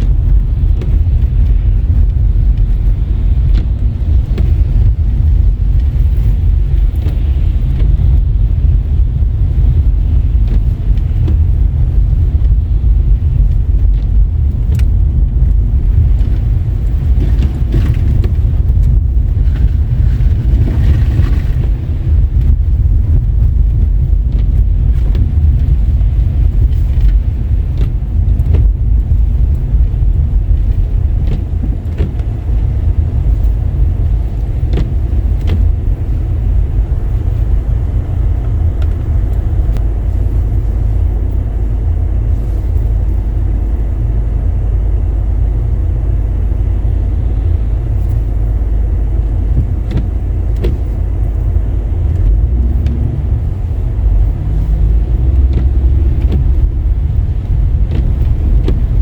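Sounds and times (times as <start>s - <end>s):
car tyres and engine rumbling: 0.0s - 59.0s.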